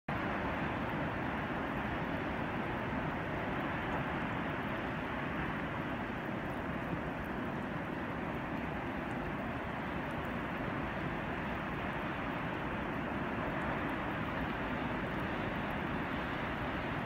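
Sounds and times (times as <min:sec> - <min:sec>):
wind: 0:00.1 - 0:17.0.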